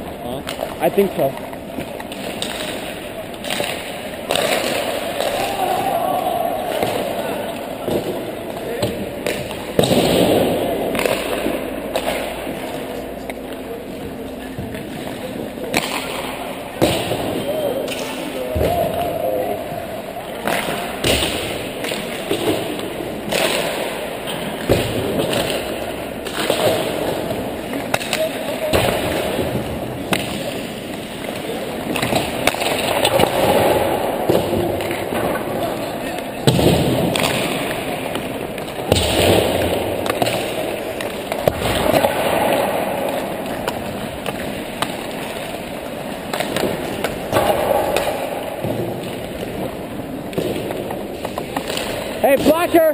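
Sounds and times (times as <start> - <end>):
stick striking puck: 1.5 - 5.8, 7.8 - 13.5, 15.7 - 17.3, 20.4 - 35.6, 36.4 - 52.5.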